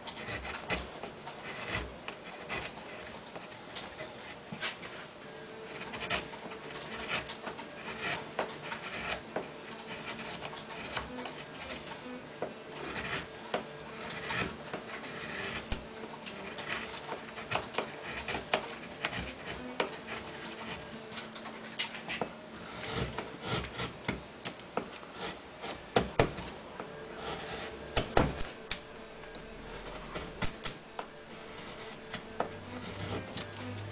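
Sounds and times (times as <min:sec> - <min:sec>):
chisel scraping wood: 0:00.0 - 0:05.0, 0:05.7 - 0:33.9.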